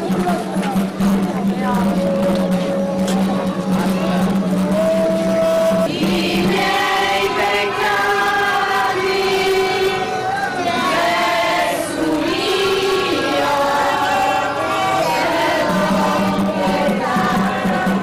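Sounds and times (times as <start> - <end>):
women and children singing a hymn: 1.9 - 18.0.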